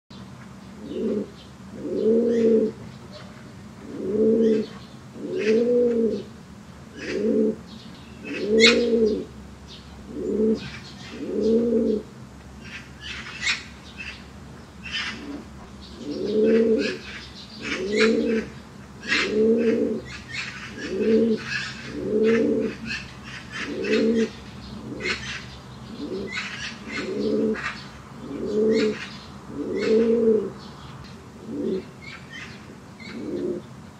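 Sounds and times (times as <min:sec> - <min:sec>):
pigeons cooing: 0:00.8 - 0:09.4, 0:10.0 - 0:14.2, 0:14.8 - 0:33.8.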